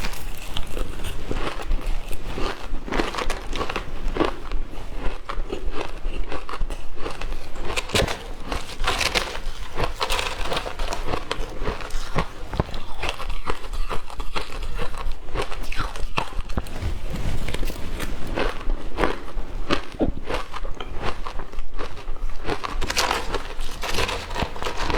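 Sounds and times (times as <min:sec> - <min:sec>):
ice crunching while chewed: 0:00.0 - 0:24.9.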